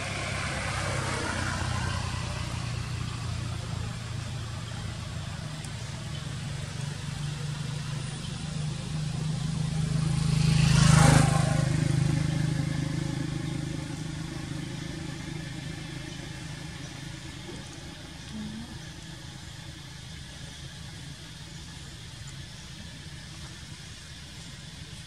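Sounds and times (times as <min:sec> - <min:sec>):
motor vehicle passing by: 0:00.0 - 0:20.8.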